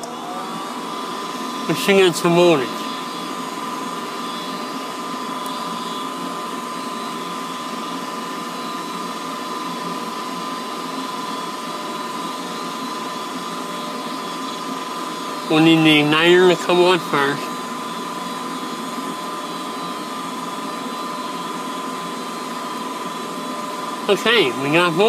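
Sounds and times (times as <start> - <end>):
furnace fan whirring with whine: 0.0 - 25.0.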